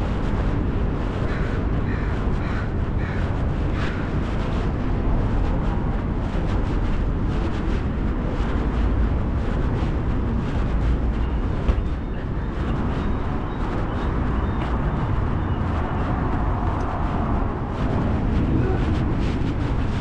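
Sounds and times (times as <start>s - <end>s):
traffic noise: 0.0s - 20.0s.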